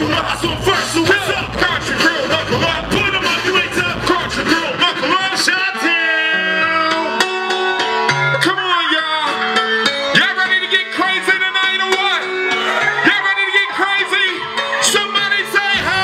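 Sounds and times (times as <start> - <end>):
loud hip-hop music: 0.0 - 16.0.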